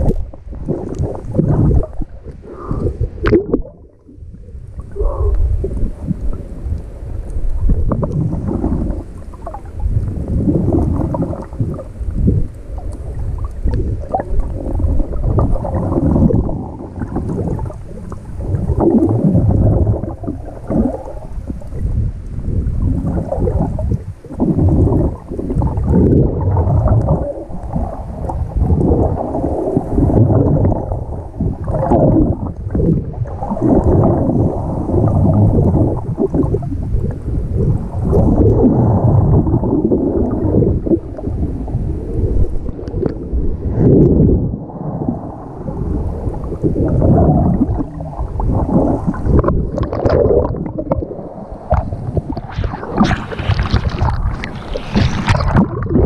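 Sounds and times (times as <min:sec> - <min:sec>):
underwater rumbling and gurgling: 0:00.0 - 0:56.0.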